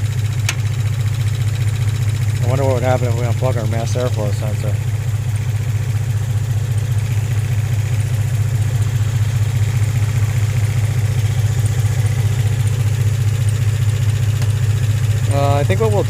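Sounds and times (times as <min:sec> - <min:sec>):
car engine idling rough: 0:00.0 - 0:16.0.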